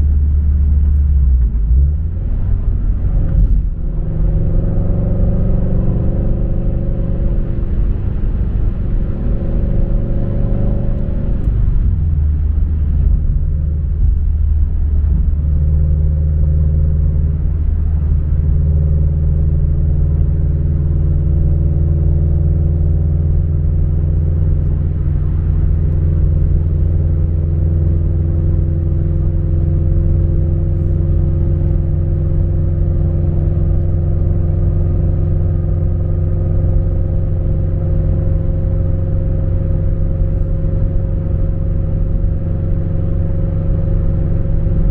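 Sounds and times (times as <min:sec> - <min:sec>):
car engine rumble in cabin: 0:00.0 - 0:44.9
road noise: 0:00.0 - 0:44.9.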